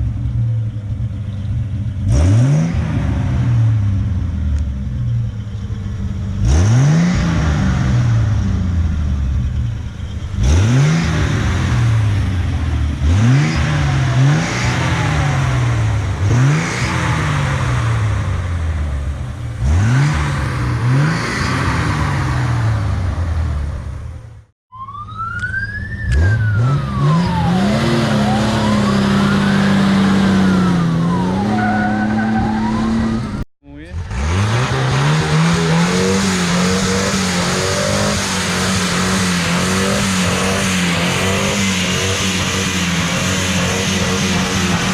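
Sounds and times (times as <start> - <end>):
truck engine revving: 0.0 - 5.2, 5.8 - 24.5, 25.8 - 44.9.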